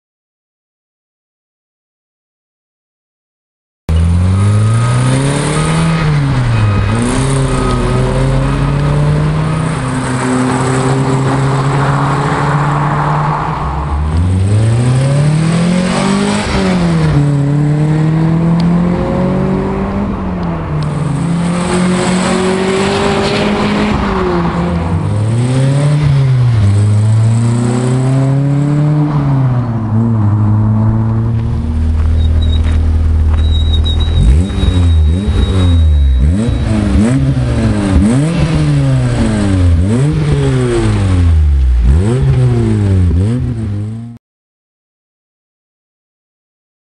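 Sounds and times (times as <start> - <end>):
car engine revving: 3.9 - 44.2.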